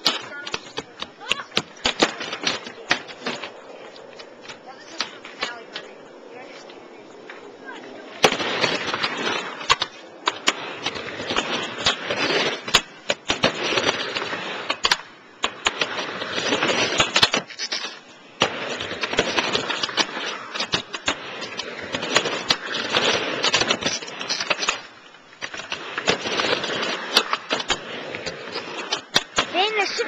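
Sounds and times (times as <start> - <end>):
skateboard wheels rolling on ramp: 0.0 - 30.0
skateboards clacking on ramp: 0.0 - 30.0.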